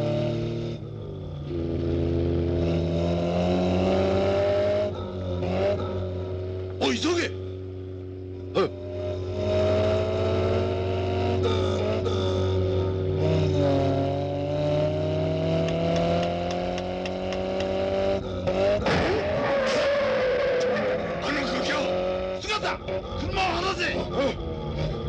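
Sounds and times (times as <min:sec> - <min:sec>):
car engines droning at speed: 0:00.0 - 0:25.0.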